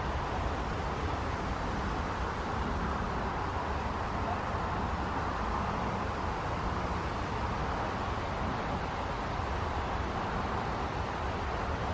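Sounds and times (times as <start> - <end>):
boat engine rumble and hiss: 0.0 - 11.9.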